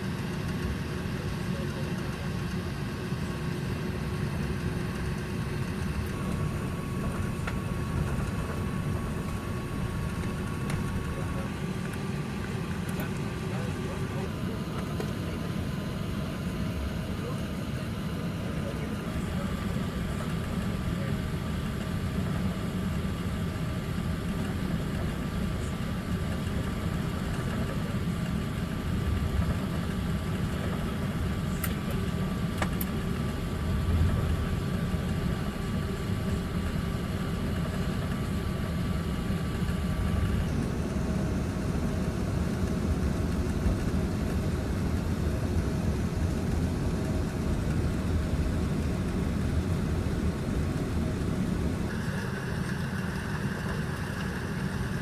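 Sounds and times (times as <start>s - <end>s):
aircraft cabin rumble: 0.0s - 55.0s
faint steady whine: 0.0s - 55.0s.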